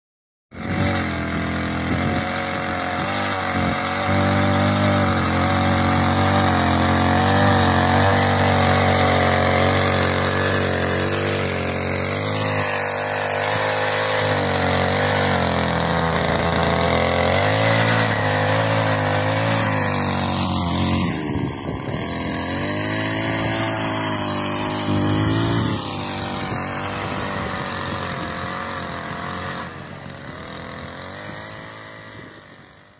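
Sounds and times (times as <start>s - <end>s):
power weeder engine running: 0.6s - 32.9s.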